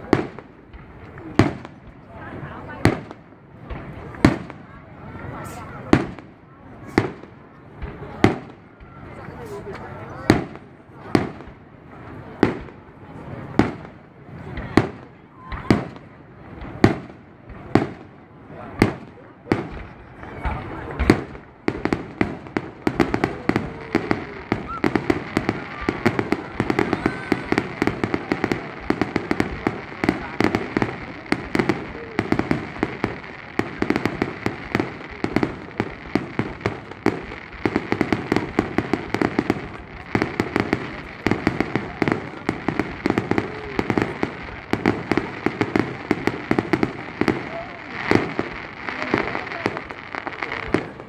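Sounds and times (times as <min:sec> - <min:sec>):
fireworks crackling: 0:00.0 - 0:51.0.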